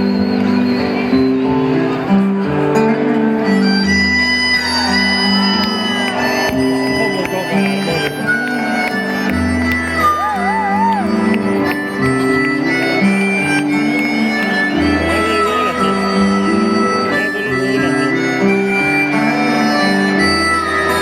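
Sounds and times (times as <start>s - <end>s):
wind instrument melody: 3.0s - 21.0s.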